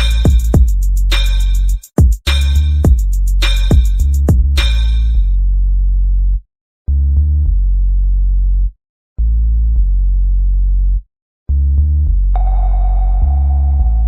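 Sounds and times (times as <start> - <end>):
synthesizer bass chords: 0.0 - 14.0.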